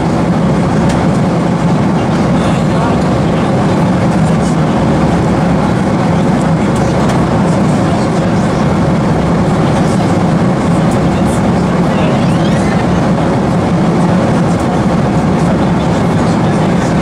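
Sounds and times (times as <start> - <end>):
aircraft cabin roar: 0.0 - 17.0.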